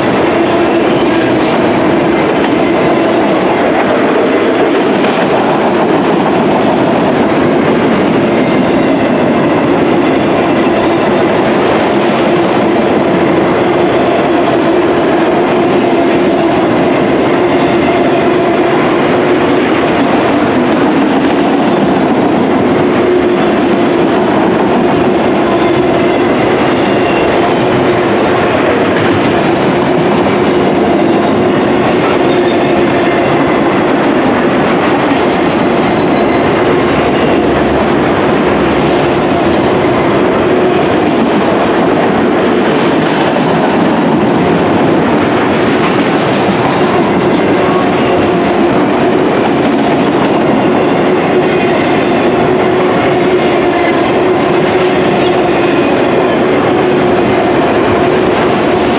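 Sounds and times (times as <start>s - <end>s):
freight train wheels clacking: 0.0s - 58.9s.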